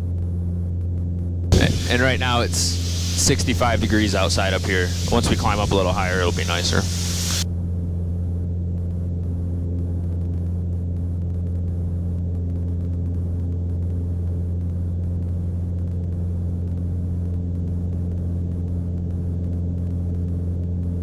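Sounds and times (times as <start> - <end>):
aircraft engine and propeller drone: 0.0 - 21.0.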